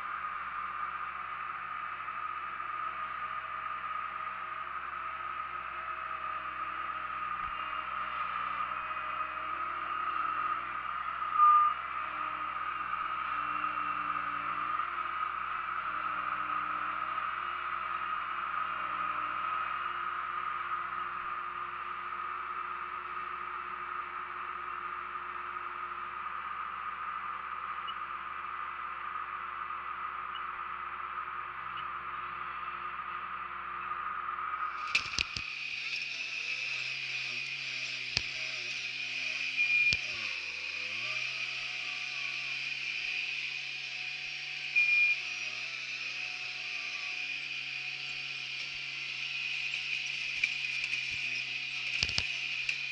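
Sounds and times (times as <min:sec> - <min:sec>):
loader engine and hydraulics droning: 0:00.0 - 0:52.9.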